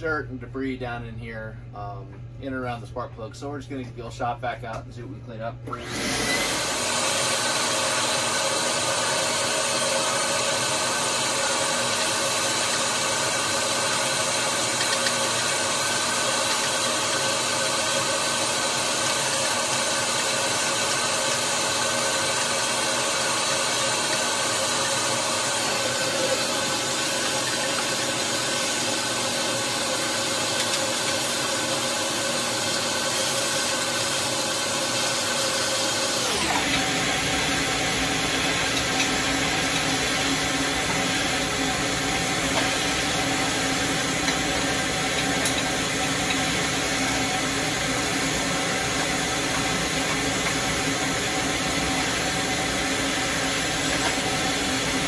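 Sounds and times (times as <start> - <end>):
shop vacuum sucking debris: 5.7 - 55.0.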